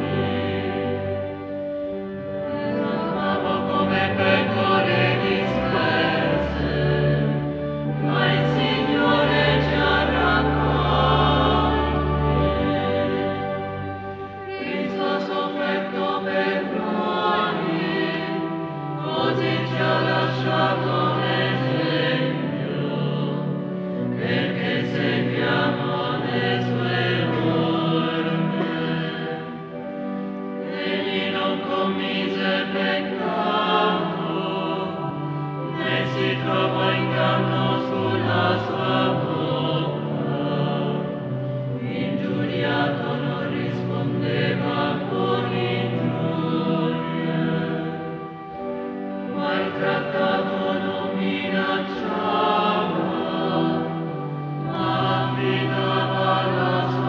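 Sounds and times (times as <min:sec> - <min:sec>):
accompaniment holding low notes: 0:00.0 - 0:57.0
congregation singing a hymn: 0:00.0 - 0:57.0.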